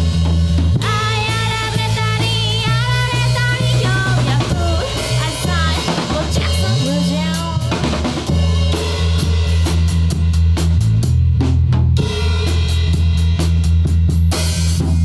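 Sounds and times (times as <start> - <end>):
drum kit: 0.0 - 15.0
electric bass: 0.0 - 15.0
live rock band playing: 0.0 - 15.0.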